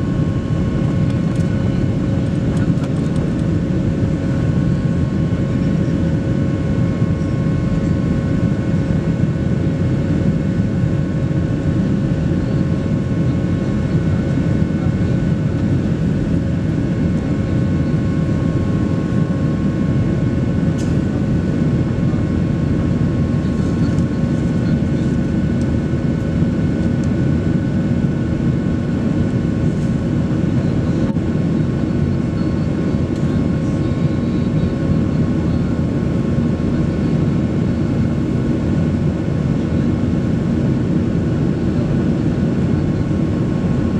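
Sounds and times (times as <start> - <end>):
jet engine cabin noise: 0.0 - 43.9.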